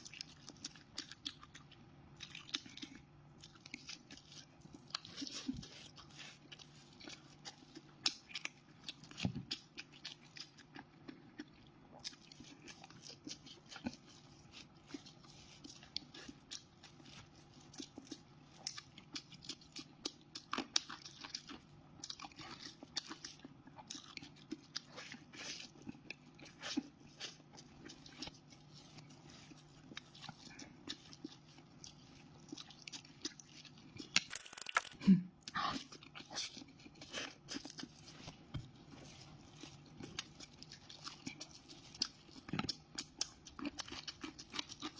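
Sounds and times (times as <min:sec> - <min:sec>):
chewing crunchy food: 0:00.0 - 0:44.9.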